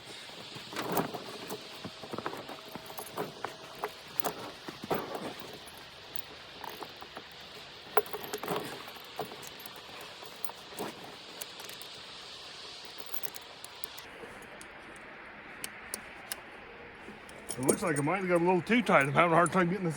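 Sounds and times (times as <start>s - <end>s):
tire chains clinking and rattling: 0.0s - 14.1s, 17.2s - 19.6s
steady hiss: 0.0s - 19.9s.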